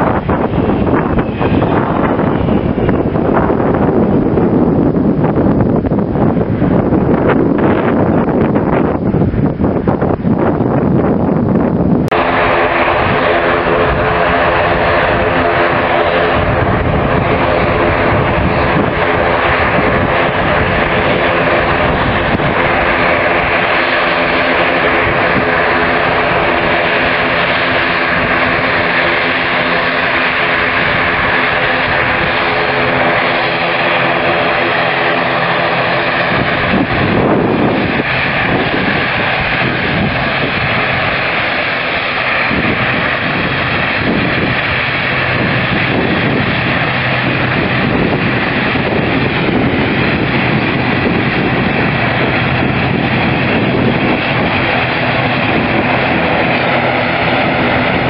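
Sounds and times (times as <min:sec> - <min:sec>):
turboprop plane droning: 0:00.0 - 0:58.0.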